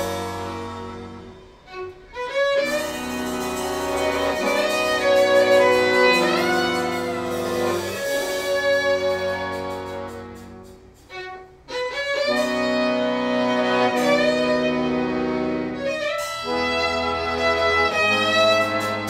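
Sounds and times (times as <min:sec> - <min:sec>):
accordion chords: 0:00.0 - 0:19.0
light percussion: 0:00.0 - 0:19.0
violin melody: 0:00.0 - 0:19.0.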